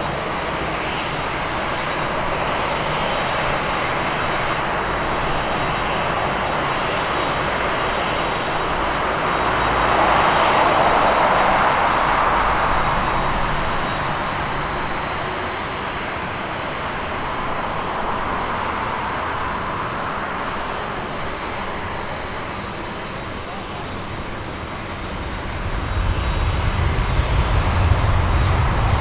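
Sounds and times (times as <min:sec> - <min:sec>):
jet engines rushing: 0:00.0 - 0:29.0.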